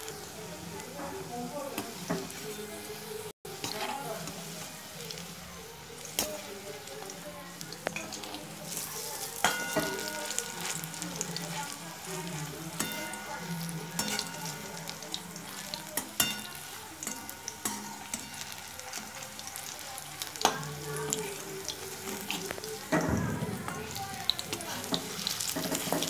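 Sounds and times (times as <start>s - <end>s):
fritters sizzling in oil: 0.0s - 26.0s.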